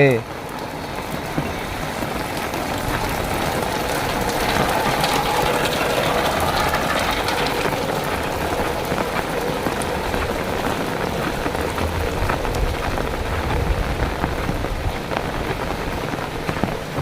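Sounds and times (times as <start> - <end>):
heavy rain falling: 0.0 - 17.0
faint engine-like drone: 0.2 - 14.6.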